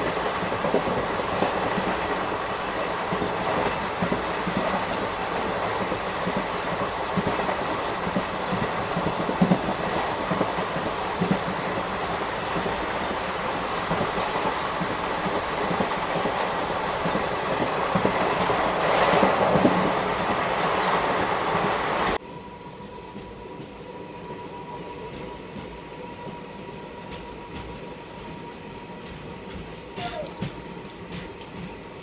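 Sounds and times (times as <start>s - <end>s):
wheels rushing on rail: 0.0s - 32.0s.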